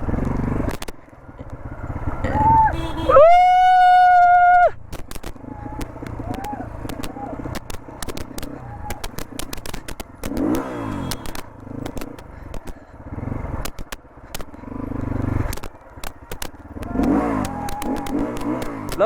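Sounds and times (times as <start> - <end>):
clicks and rattles on dirt trail: 0.0 - 2.6, 4.1 - 19.0
motorcycle engine revving: 0.0 - 19.0.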